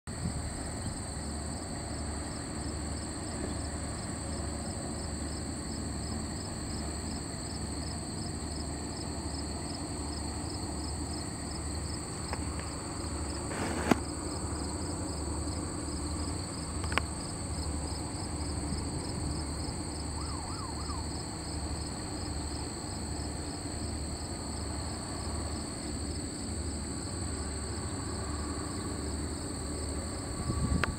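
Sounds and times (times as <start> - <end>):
insects trilling: 0.2 - 30.9.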